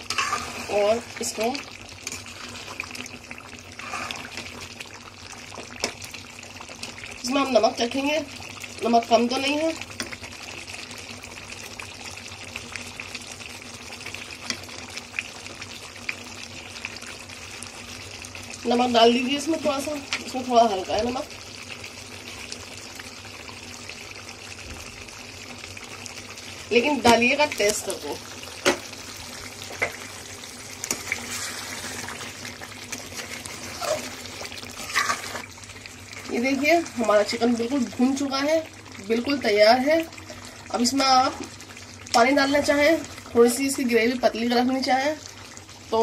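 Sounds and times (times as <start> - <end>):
sauce sizzling and popping: 0.0 - 46.0.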